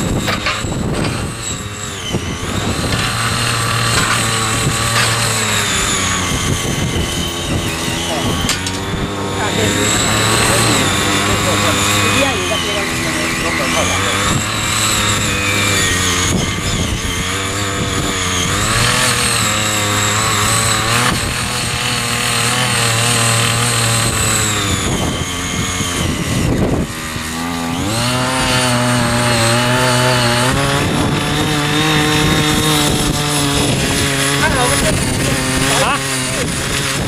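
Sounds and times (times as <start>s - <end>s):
small petrol engine running hard: 0.0s - 37.0s.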